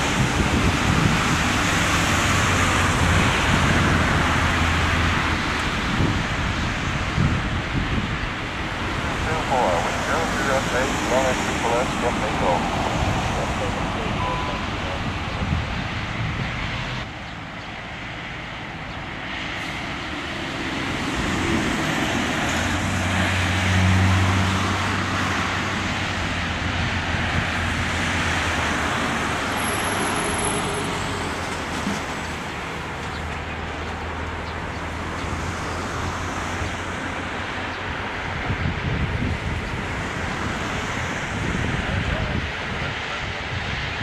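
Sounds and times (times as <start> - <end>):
jet engines rushing noise: 0.0 - 44.0.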